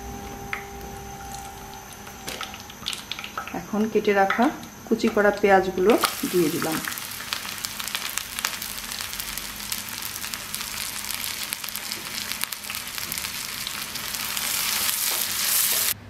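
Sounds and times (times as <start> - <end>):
onions sizzling and crackling in oil: 0.0 - 16.0.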